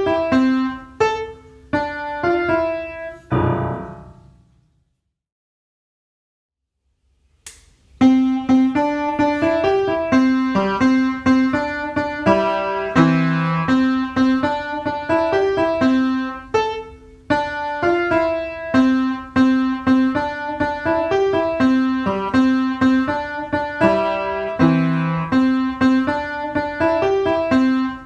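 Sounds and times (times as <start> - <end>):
piano music: 0.0 - 4.5, 8.0 - 28.0.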